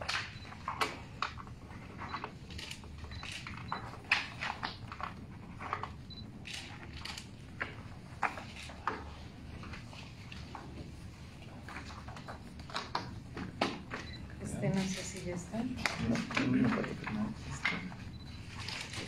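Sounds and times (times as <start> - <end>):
paper rustling: 0.0 - 14.0, 14.7 - 19.0.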